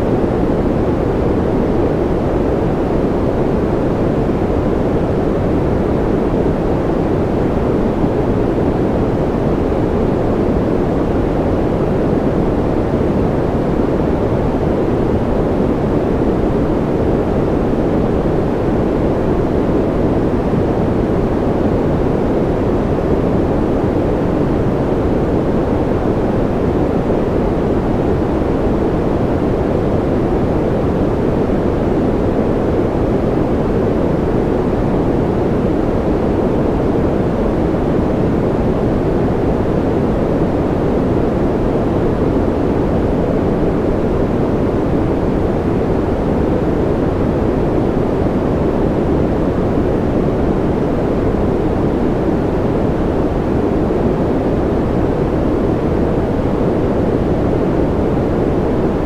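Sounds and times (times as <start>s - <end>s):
deep white noise hiss: 0.0s - 59.0s.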